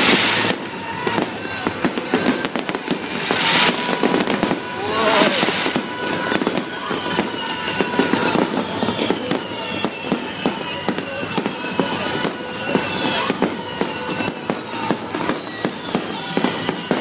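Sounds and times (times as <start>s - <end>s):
fireworks bursting and crackling: 0.0s - 17.0s
fireworks hissing rushes: 0.0s - 17.0s.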